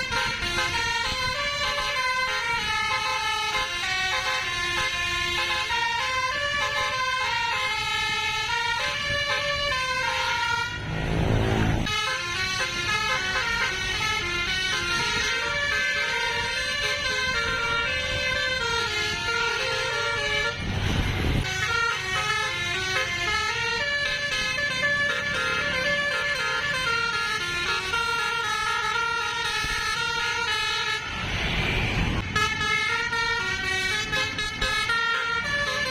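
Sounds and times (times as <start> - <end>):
musical bus horn tune: 0.0 - 35.9.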